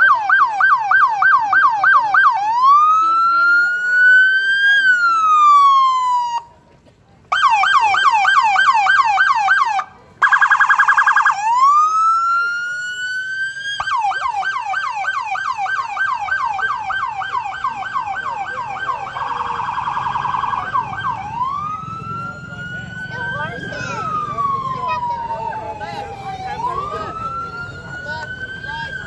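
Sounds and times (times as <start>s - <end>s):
police siren wailing and yelping: 0.0s - 6.5s, 7.3s - 29.0s.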